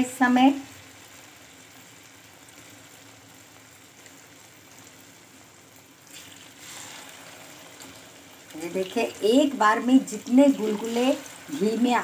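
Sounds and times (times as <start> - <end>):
batter sizzling in hot fat: 0.0 - 12.0.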